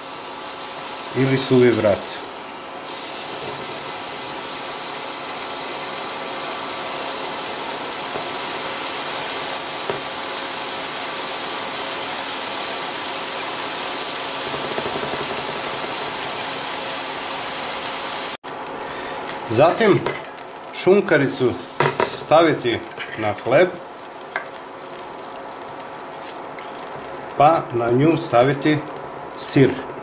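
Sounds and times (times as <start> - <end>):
bread and meat sizzling in pan: 0.0 - 29.7.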